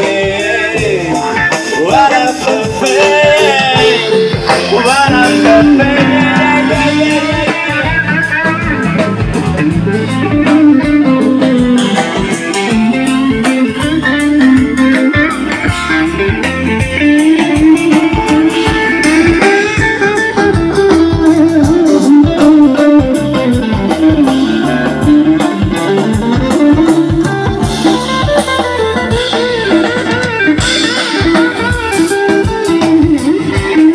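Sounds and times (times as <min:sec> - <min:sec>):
live rock band instrumental: 0:00.0 - 0:33.9.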